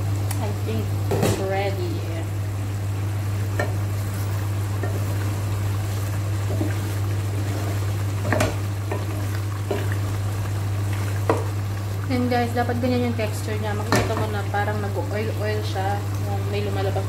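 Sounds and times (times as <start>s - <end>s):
thick sauce bubbling in a pot: 2.3s - 17.0s.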